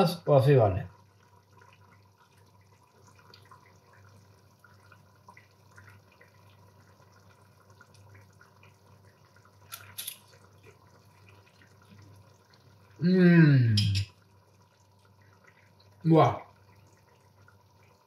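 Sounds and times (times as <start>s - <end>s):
sauce bubbling faintly: 0.2s - 18.0s.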